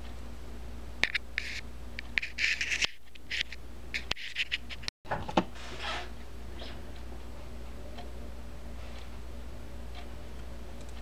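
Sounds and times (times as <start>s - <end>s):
low steady hum: 0.0s - 4.1s, 5.1s - 11.0s.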